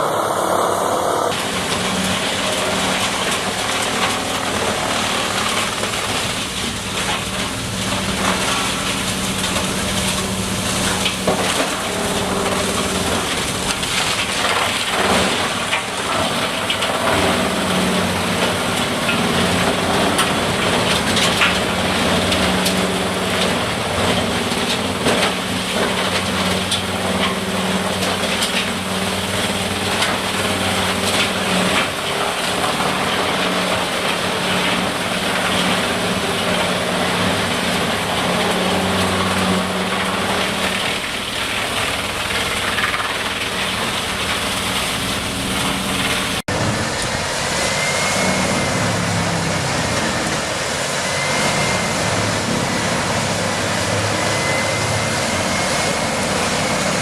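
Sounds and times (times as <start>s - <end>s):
wood-processing machine engine: 0.0s - 57.0s.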